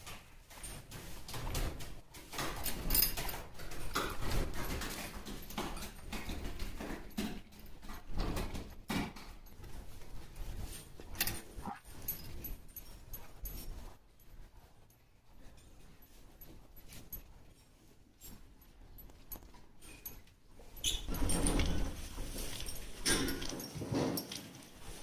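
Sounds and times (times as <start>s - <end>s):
cows snuffling and sniffing: 0.0s - 25.0s.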